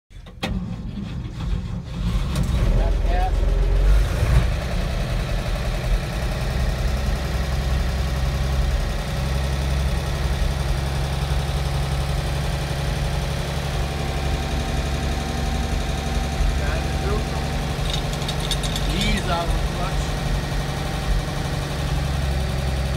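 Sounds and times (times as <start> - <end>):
truck engine idling: 2.7 - 22.9.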